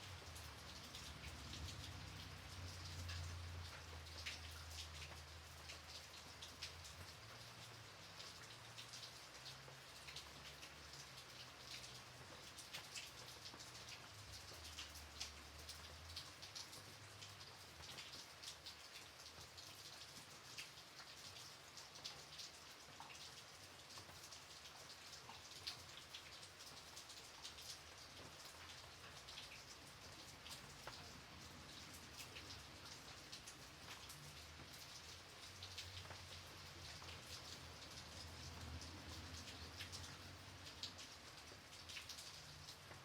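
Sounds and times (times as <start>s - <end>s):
gentle rain with dripping drops: 0.0s - 43.0s.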